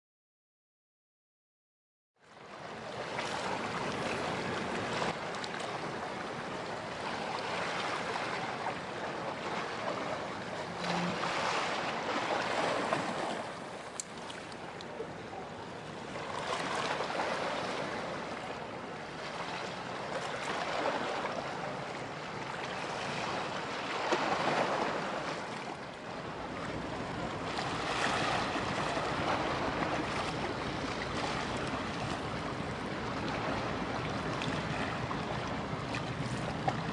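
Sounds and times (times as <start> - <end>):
wind and water hiss: 2.2 - 36.9.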